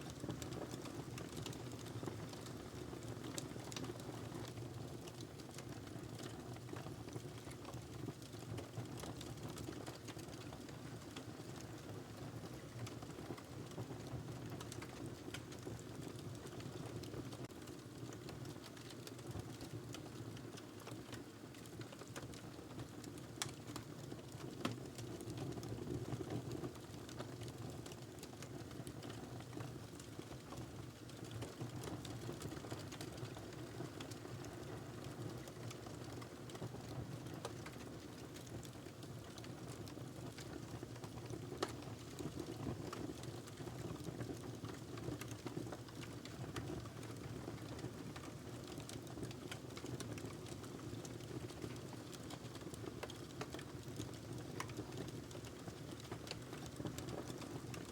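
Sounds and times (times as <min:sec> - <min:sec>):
wood fire crackling and popping: 0:00.1 - 0:57.9.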